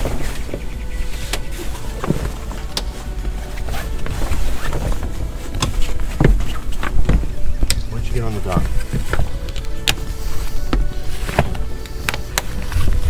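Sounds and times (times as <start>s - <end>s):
cloth handling: 0.0s - 13.0s
low wind rumble on microphone: 0.0s - 13.0s.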